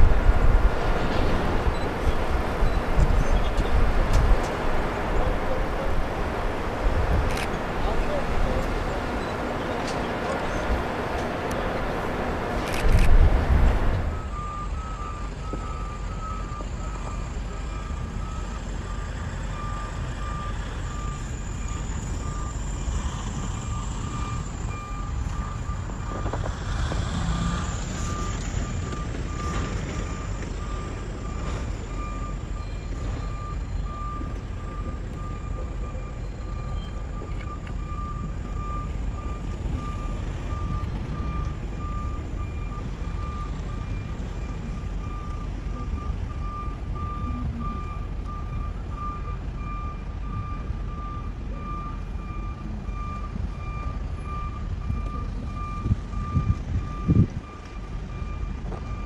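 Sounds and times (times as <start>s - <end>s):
electronic warning alarm beeping: 0.0s - 59.0s
engine rumbling: 0.0s - 59.0s.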